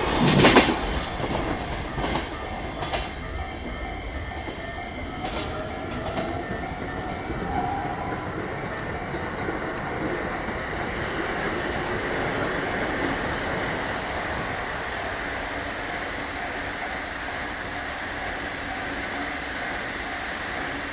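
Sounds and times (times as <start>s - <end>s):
freight train wheels clacking: 0.0s - 20.9s.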